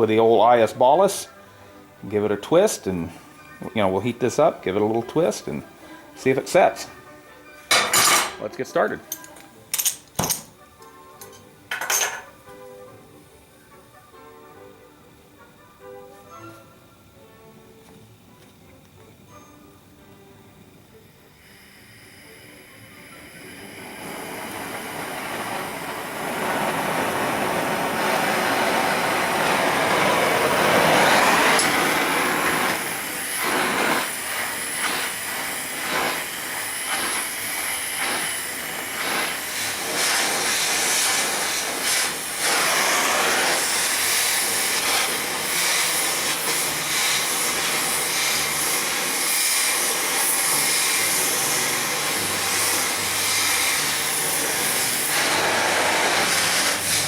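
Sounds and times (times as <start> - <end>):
cutting torch flame hissing: 0.0 - 57.0.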